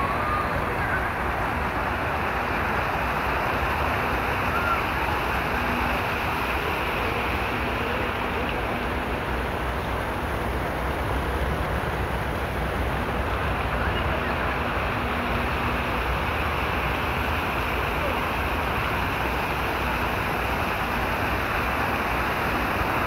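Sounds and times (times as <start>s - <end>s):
fountain water splashing into pool: 0.0s - 23.0s.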